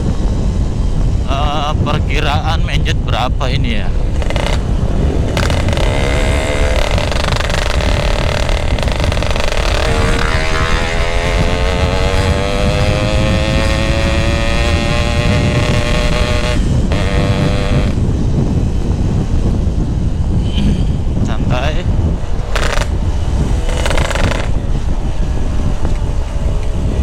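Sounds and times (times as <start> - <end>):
wind rumble on microphone: 0.0 - 27.0
two-stroke motorcycle accelerating: 3.5 - 27.0.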